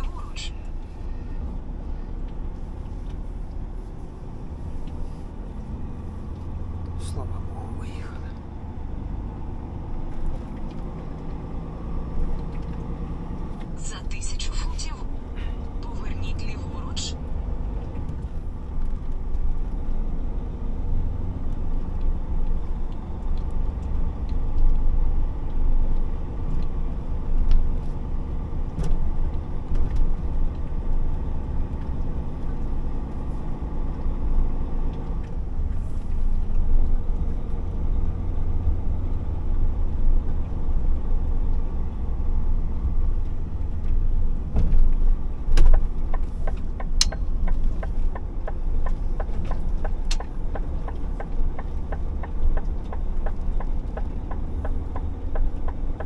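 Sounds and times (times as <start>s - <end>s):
diesel truck engine rumbling: 0.0s - 56.0s.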